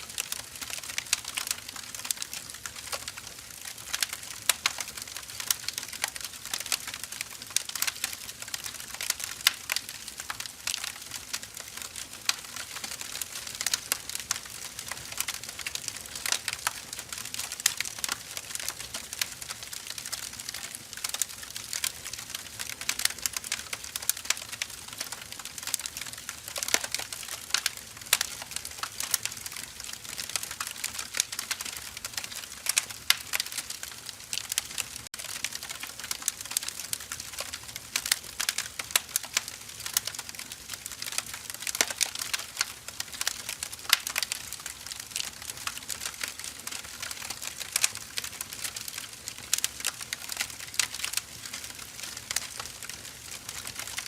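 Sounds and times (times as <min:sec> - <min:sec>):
firewood crackling and snapping: 0:00.0 - 0:54.0.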